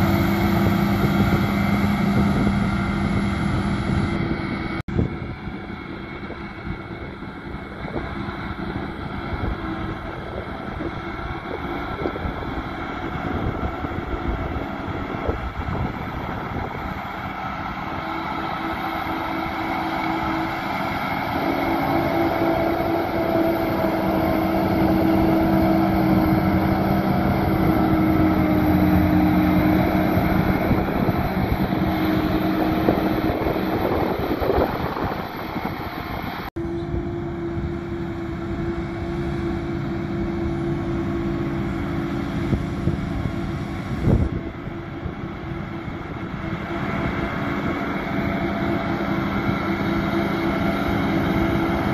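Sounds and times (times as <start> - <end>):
tractor engine: 0.0 - 51.9.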